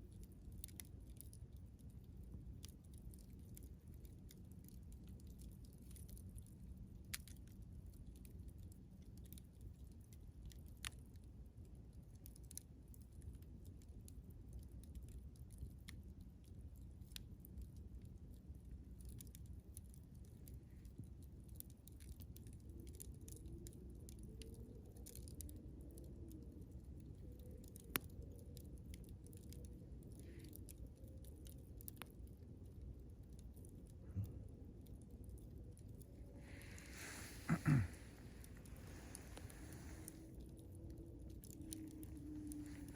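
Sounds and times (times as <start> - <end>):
campfire crackling and popping: 0.1 - 42.9.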